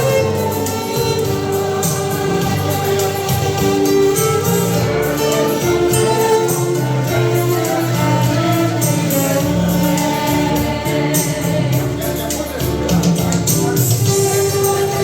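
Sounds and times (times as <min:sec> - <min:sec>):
backing track with bass: 0:00.0 - 0:15.0
light percussion: 0:00.0 - 0:15.0
violin playing slow melody: 0:00.0 - 0:15.0.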